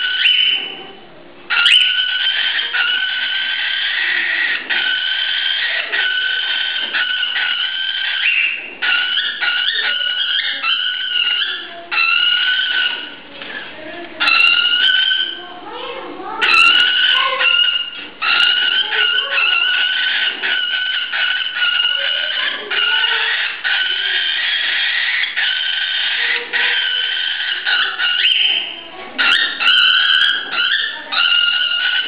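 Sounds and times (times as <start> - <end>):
cockatiel fear call: 0.0 - 0.9, 1.5 - 13.6, 14.2 - 15.5, 16.4 - 32.0.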